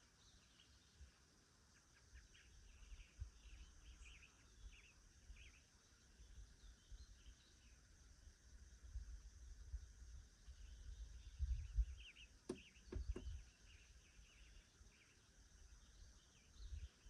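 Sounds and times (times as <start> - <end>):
songbird chirps: 0.0 - 17.0.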